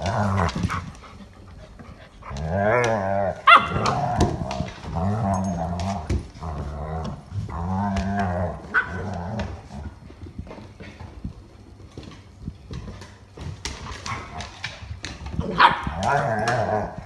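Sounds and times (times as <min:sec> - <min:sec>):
dogs play-growling: 0:00.0 - 0:17.0.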